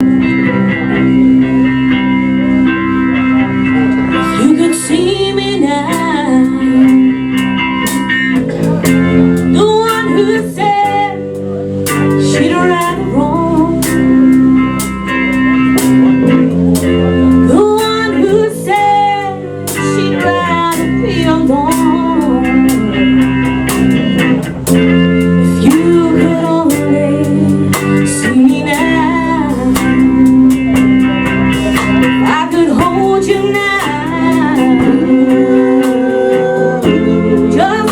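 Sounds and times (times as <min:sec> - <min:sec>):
band playing blues-rock: 0:00.0 - 0:37.9
bending guitar melody: 0:00.0 - 0:37.9.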